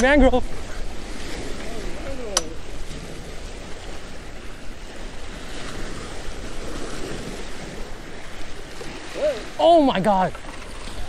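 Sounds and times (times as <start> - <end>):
waves breaking against rocks: 0.0 - 11.0
wind on microphone: 0.0 - 11.0.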